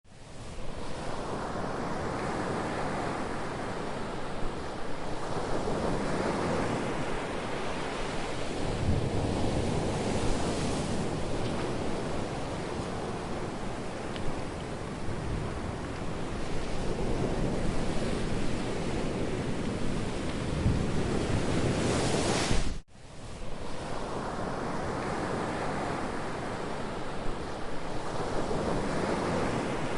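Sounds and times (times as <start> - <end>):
ocean waves rolling onto shore: 0.1 - 29.9.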